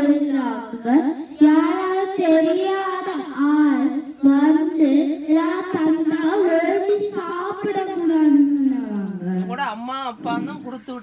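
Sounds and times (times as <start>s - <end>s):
child singing: 0.0s - 9.1s.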